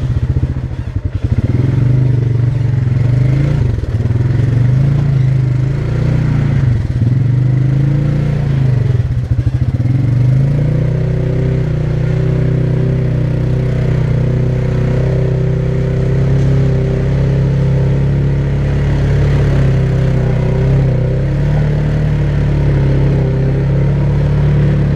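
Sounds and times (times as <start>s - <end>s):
atv engine running: 0.0s - 24.9s.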